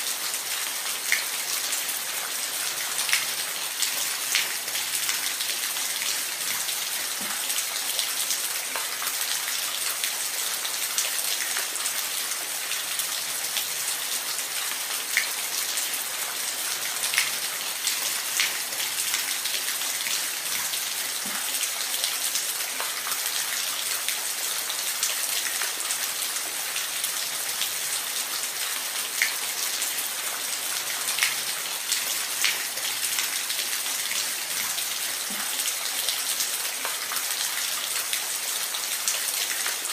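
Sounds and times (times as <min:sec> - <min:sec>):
water splashes and drips: 0:00.0 - 0:39.9.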